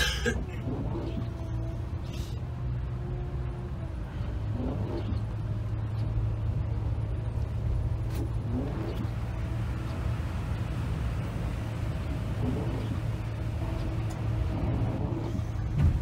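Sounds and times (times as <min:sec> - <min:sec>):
coach engine hum: 0:00.0 - 0:16.0
tyre and road noise: 0:00.0 - 0:16.0.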